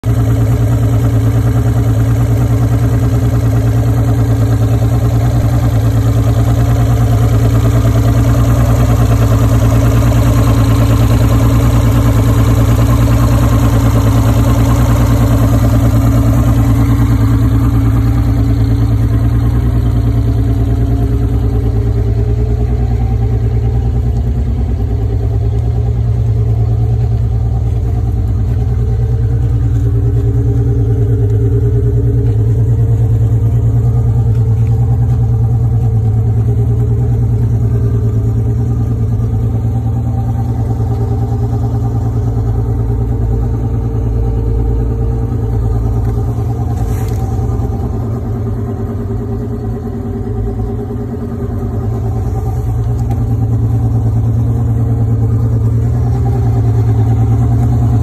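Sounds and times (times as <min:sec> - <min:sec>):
outboard motor idling: 0:00.0 - 0:58.0.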